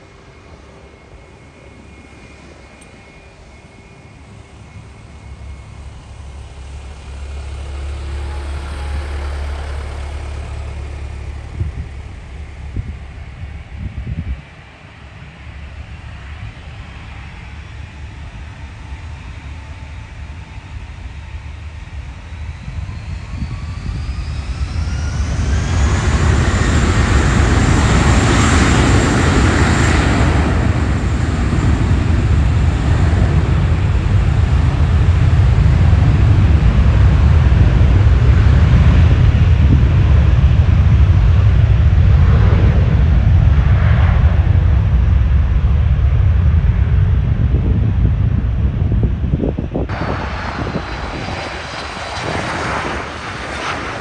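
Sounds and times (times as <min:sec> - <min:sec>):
jet engines whining: 0:00.0 - 0:54.0
loud jet roar: 0:00.0 - 0:54.0.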